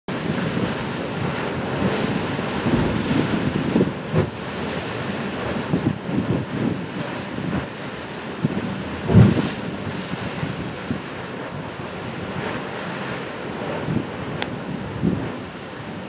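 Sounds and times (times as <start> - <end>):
sea surf washing through rocks: 0.1 - 16.0
wind buffeting microphone: 0.1 - 16.0.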